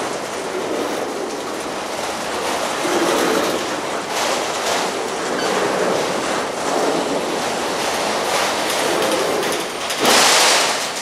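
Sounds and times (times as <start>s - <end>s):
steel wheels rushing on rails: 0.0s - 11.0s.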